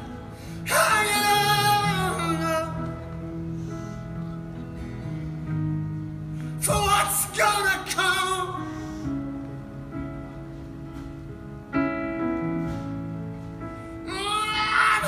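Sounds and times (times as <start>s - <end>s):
live band holding chords: 0.0s - 15.0s.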